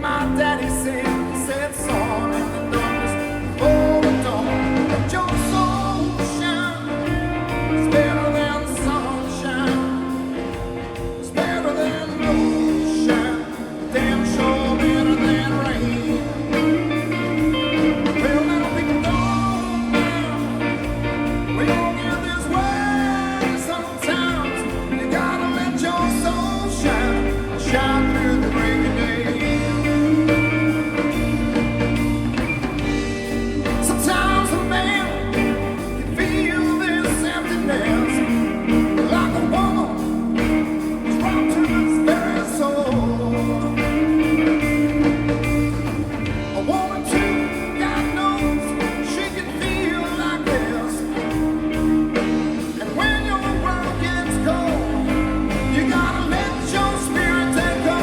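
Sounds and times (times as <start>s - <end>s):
bass guitar: 0.0s - 58.0s
electric guitar melody: 0.0s - 58.0s.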